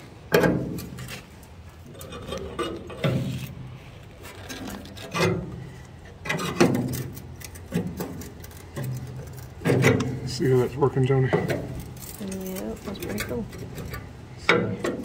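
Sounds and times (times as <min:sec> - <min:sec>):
metal bracket creaking and scraping: 0:00.0 - 0:15.0.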